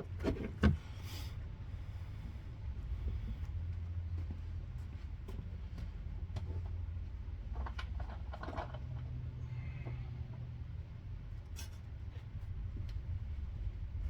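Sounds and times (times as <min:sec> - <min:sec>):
steady low hum: 0:00.1 - 0:07.6, 0:09.2 - 0:14.0.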